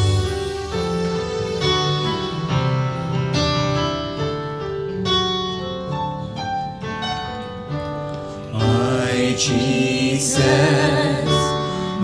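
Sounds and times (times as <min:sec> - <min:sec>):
keyboard playing chords: 0:00.0 - 0:12.0.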